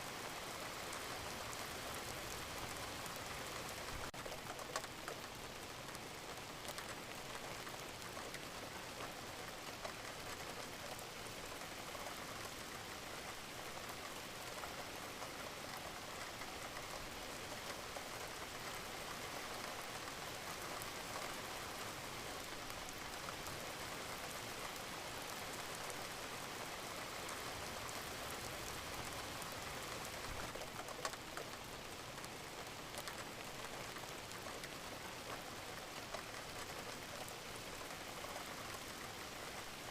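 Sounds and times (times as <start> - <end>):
steady rain hiss: 0.0 - 39.9
raindrop clicks: 2.0 - 21.7, 27.0 - 39.8.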